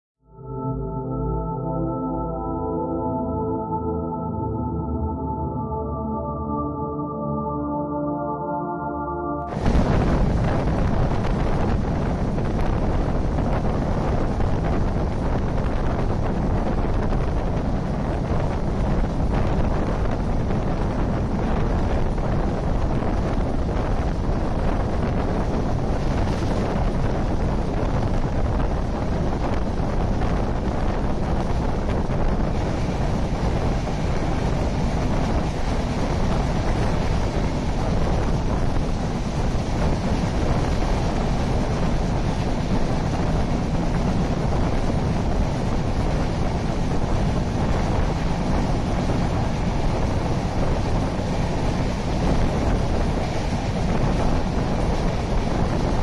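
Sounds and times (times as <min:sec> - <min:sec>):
train wheels rumbling on rails: 0:09.5 - 0:56.0
wind buffeting microphone: 0:09.5 - 0:56.0.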